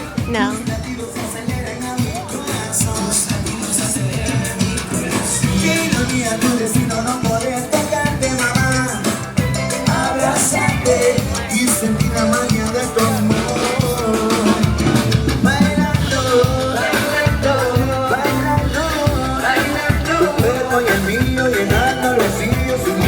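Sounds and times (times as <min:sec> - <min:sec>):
upbeat music with drum beat: 0:00.0 - 0:23.0
person singing: 0:00.2 - 0:23.0.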